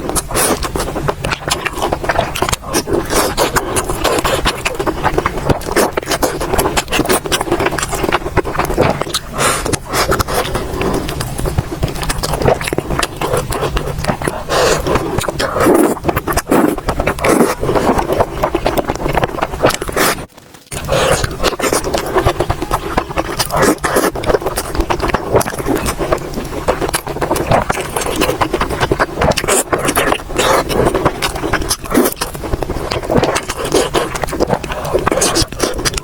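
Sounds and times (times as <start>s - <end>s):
close chewing and mouth noises: 0.0s - 36.0s.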